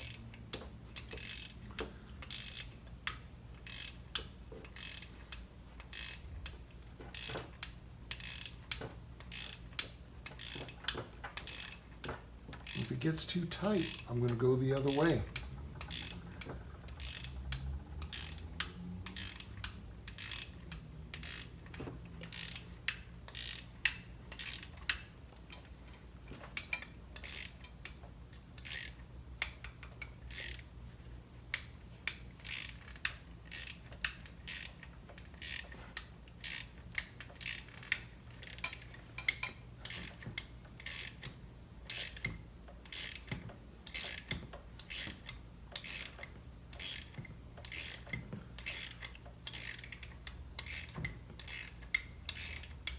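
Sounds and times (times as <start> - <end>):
hand ratchet clicking: 0.0 - 52.9
low steady hum: 0.0 - 52.9.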